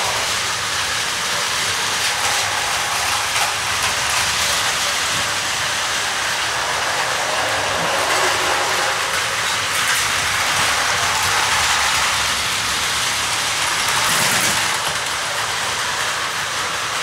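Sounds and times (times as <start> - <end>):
toy train whirring and rattling: 0.0 - 17.0.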